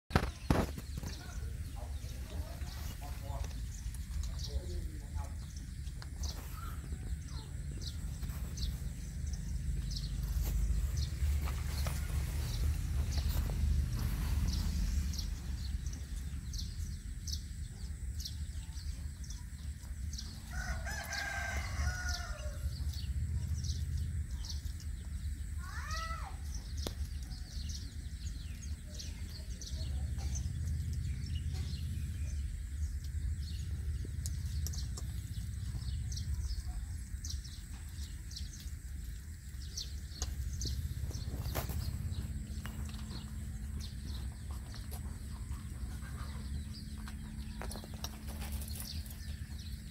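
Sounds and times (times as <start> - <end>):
steady low rumble: 0.2 - 25.6, 26.4 - 49.9.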